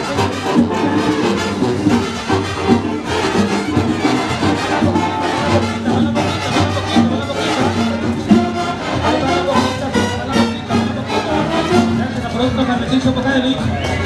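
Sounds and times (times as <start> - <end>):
marching band playing: 0.0 - 14.0.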